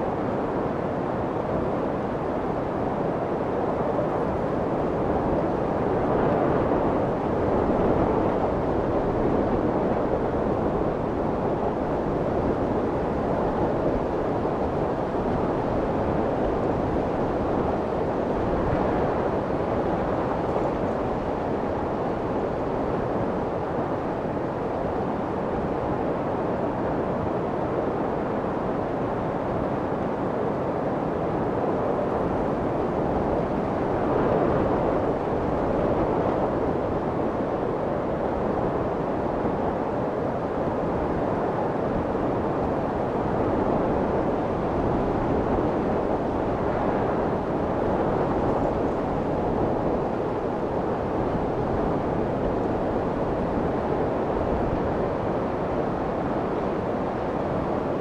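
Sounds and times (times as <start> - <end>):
light aircraft cabin noise: 0.0 - 58.0.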